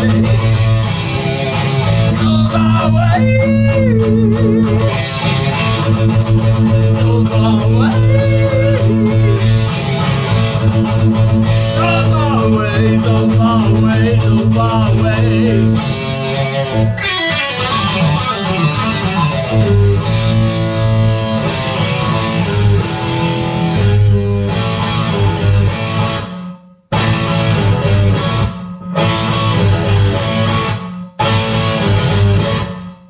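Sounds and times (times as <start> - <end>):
electric guitar rock instrumental: 0.0 - 33.0.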